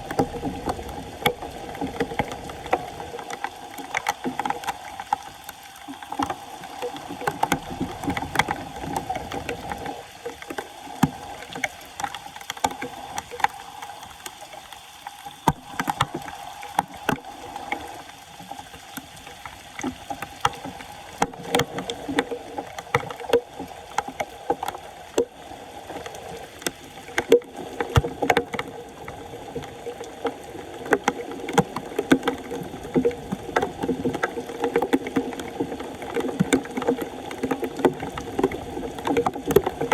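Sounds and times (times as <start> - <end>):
floodwater splashing and sloshing: 0.0 - 39.9.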